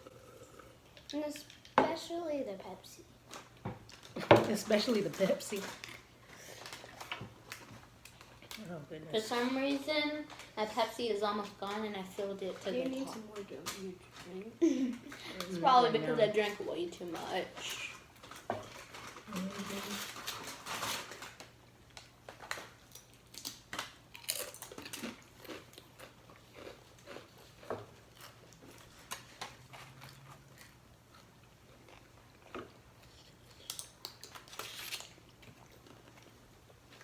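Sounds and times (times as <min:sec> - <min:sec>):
people chewing and crunching food: 0:00.0 - 0:01.8, 0:03.2 - 0:37.0.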